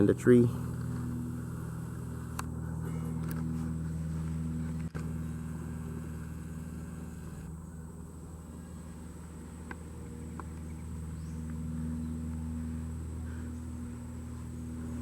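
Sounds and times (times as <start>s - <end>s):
distant propeller airplane droning: 0.0s - 15.0s.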